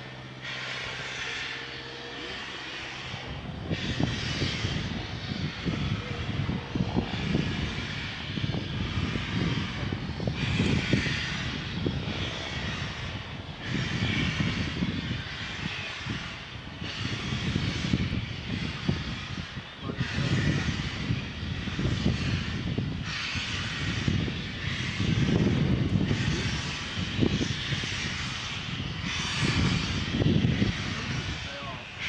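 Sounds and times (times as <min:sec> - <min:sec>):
steam hiss: 0:00.0 - 0:25.2, 0:26.0 - 0:32.0
distant steam locomotive: 0:00.0 - 0:32.0
wind buffeting microphone: 0:00.0 - 0:32.0.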